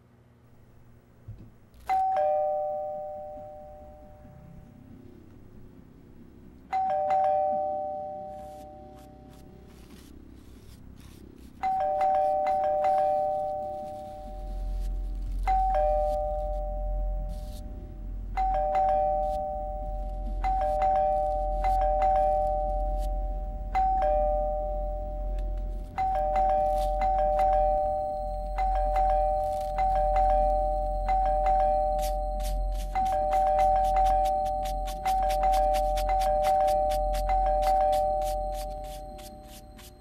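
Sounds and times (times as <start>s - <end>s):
two-tone doorbell chime: 1.8s - 4.4s, 6.7s - 9.4s, 11.6s - 40.0s.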